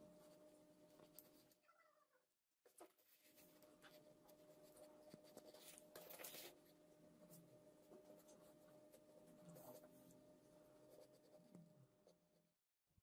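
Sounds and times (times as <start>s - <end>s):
faint steady hum: 0.0s - 2.1s, 2.7s - 12.5s.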